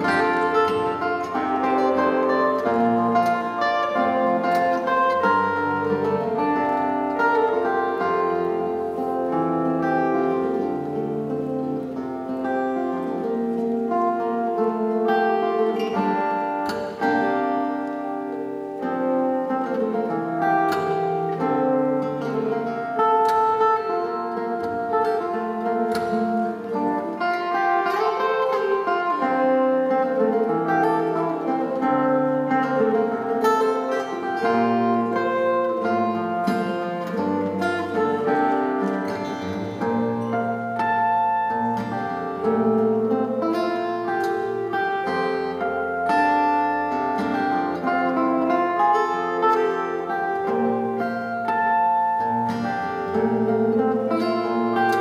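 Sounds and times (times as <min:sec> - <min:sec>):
fingerstyle acoustic guitar: 0:00.0 - 0:55.0.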